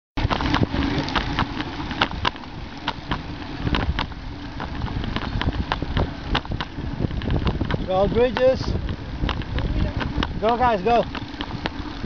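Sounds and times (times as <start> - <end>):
bicycle clicks and rattles: 0.2 - 12.0
wind and road rumble: 0.2 - 12.0.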